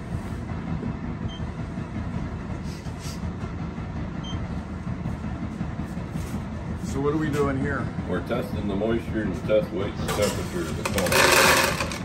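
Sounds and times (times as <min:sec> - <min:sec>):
low rumble of machinery: 0:00.0 - 0:12.0.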